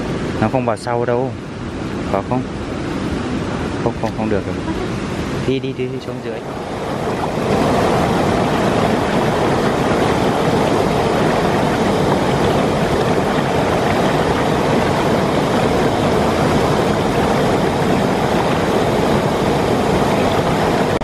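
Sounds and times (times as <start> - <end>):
stream rushing over a weir: 0.0 - 21.0.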